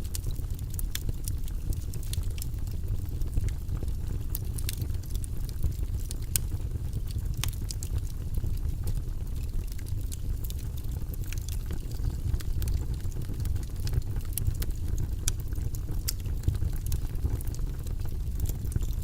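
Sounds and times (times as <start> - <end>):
fire crackles and pops: 0.0 - 19.0
low rumble of flame: 0.0 - 19.0.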